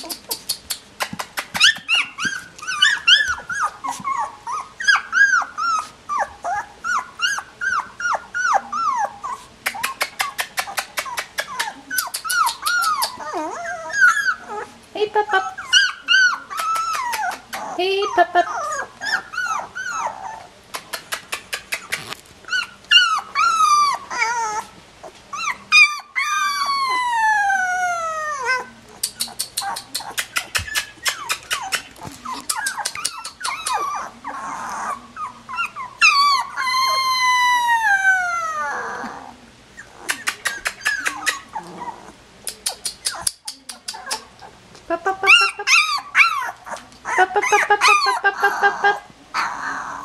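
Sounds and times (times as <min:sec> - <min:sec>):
puppies whining: 0:00.0 - 0:50.0.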